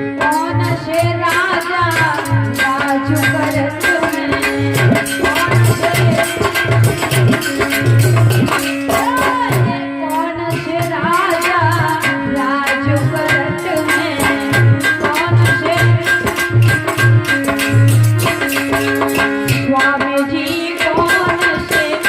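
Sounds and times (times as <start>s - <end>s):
tabla rhythm: 0.0s - 22.0s.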